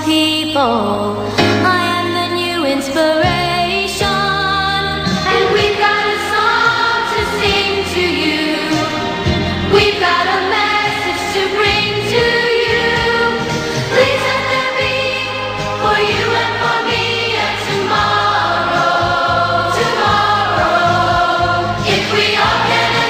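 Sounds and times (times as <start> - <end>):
song with singing: 0.0 - 23.0.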